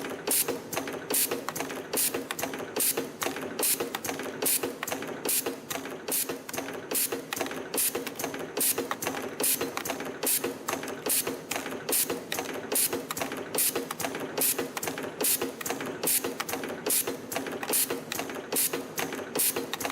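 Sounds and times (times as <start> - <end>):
spring coiling machine clacks: 0.0 - 19.9
light machine clicks: 0.3 - 19.9.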